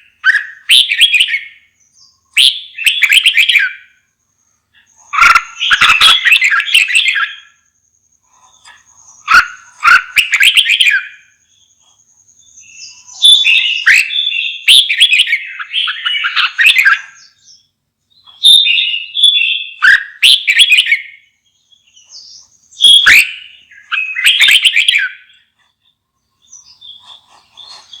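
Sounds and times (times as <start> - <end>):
bulbul singing warbled phrases: 0.0 - 4.1, 4.8 - 25.5.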